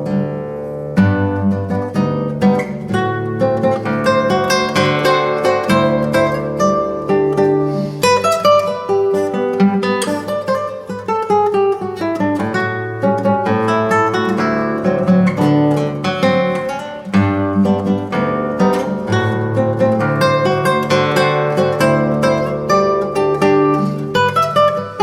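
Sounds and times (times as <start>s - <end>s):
solo classical guitar: 0.0s - 25.0s.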